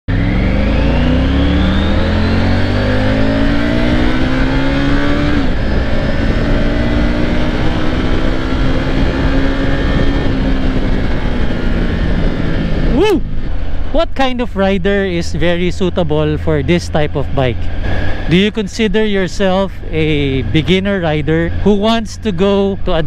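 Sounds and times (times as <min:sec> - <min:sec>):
motorcycle engine accelerating: 0:00.1 - 0:23.0
wind rushing: 0:00.6 - 0:15.6, 0:17.0 - 0:22.1.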